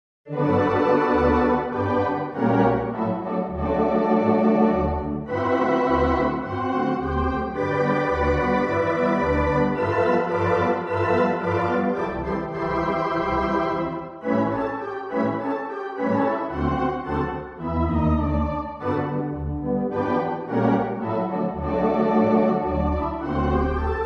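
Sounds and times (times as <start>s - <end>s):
organ chords: 0.3s - 24.0s.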